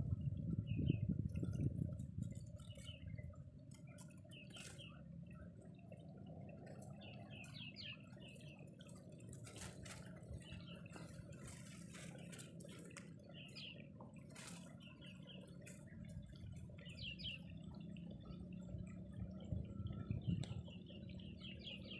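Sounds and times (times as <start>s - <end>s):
low wind noise: 0.0s - 14.2s, 14.8s - 21.9s.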